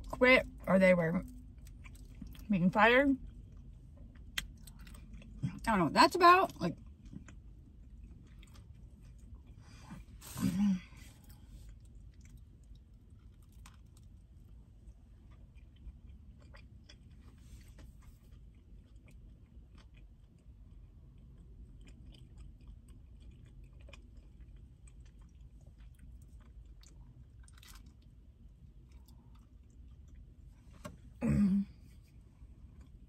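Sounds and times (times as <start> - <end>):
low steady hum: 0.0 - 33.0
faint chewing with mouth clicks: 1.2 - 2.5, 3.1 - 5.7, 6.5 - 31.1, 31.7 - 33.0.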